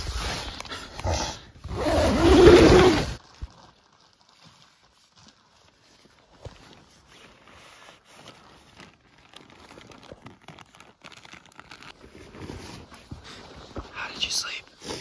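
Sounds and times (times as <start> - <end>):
small crackles: 0.0 - 15.0
fabric crinkling and rustling: 1.7 - 15.0.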